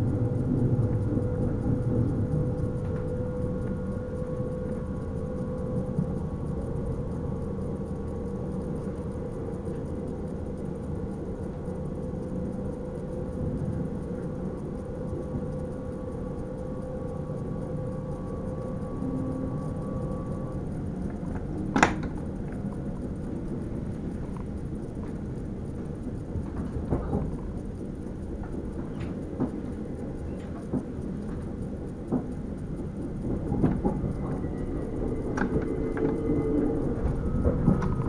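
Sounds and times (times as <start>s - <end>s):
electric train rumble: 0.0s - 38.0s
steady hum: 0.0s - 38.0s.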